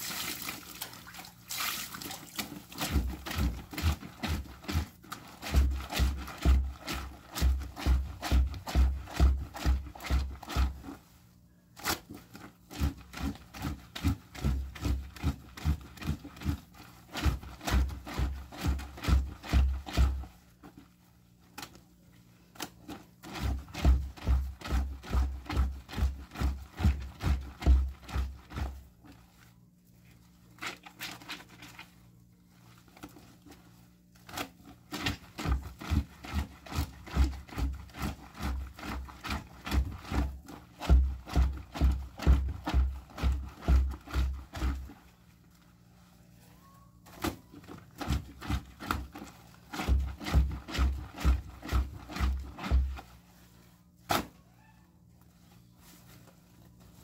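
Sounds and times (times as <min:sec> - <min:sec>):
cloth scrubbing on washboard: 0:00.0 - 0:46.5, 0:47.1 - 0:54.3.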